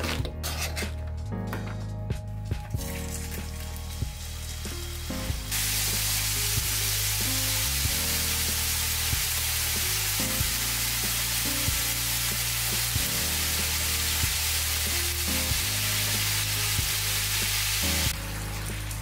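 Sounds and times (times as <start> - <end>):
background music with bassline: 0.0 - 19.0
chicken sizzling in frying pan: 3.1 - 19.0.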